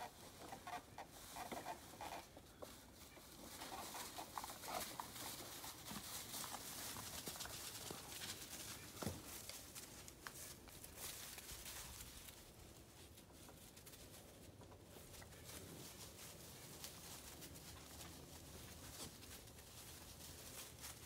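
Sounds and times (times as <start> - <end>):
dry leaves rustling and crackling: 0.0 - 21.0.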